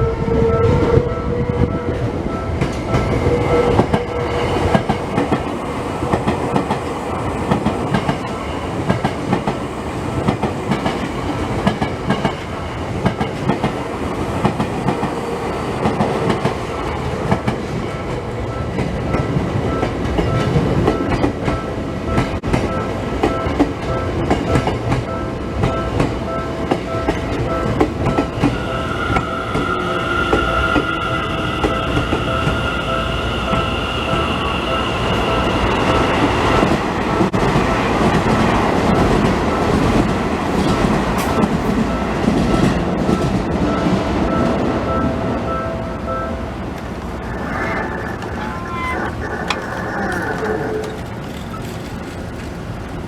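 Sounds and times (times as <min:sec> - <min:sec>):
level crossing warning bell: 0:00.6 - 0:49.6
train wheels clacking over rails: 0:01.9 - 0:44.9, 0:46.7 - 0:53.0.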